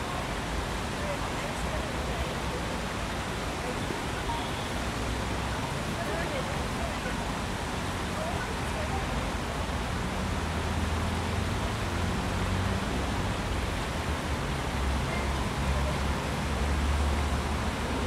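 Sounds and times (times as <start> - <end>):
low rumble of water: 0.0 - 18.0
stream rushing over rocks: 0.0 - 18.0.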